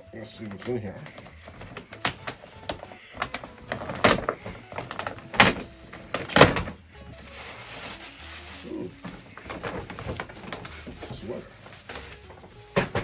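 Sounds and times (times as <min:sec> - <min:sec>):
packaging torn open: 0:00.6 - 0:12.8.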